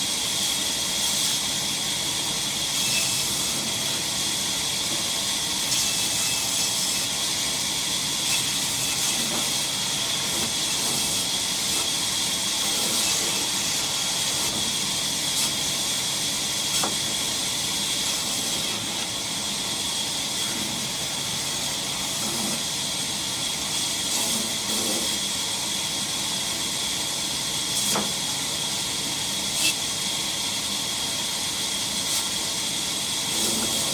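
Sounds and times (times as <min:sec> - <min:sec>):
sawmill machinery hiss: 0:00.0 - 0:33.9.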